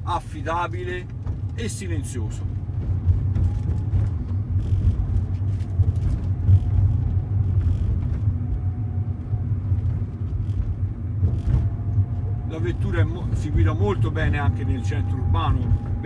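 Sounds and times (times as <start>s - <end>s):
car engine rumble inside cabin: 0.0s - 16.0s
road noise: 0.0s - 16.0s.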